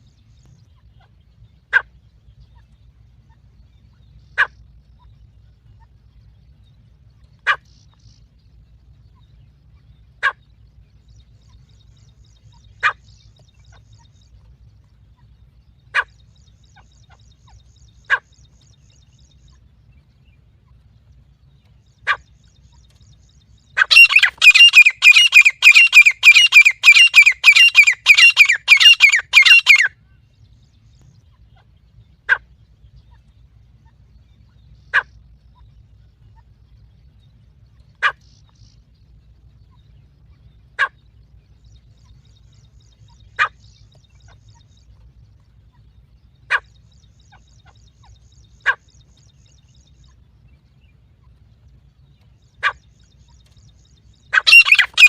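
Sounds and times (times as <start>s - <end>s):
faint low hum: 0.0s - 55.0s
francolin calls: 0.0s - 55.0s.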